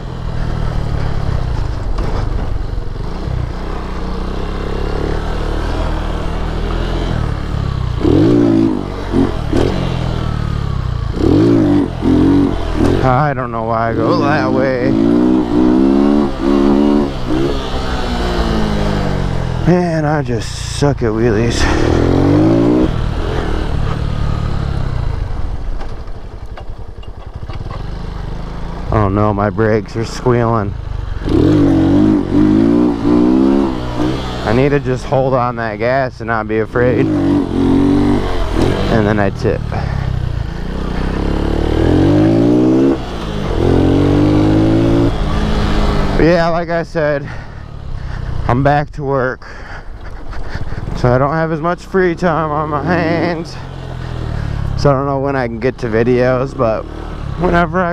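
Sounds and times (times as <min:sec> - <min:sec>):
dirt bike engine at low revs: 0:00.0 - 0:57.9.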